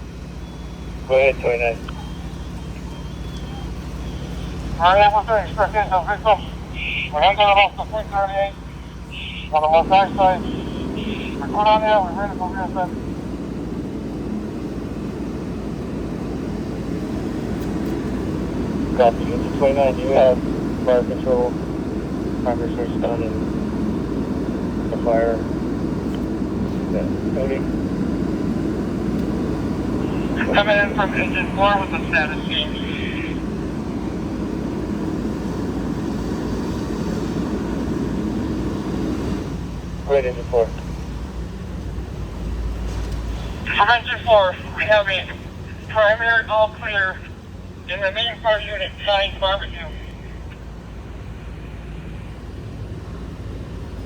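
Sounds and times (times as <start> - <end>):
fire engines rumbling: 0.0 - 54.0.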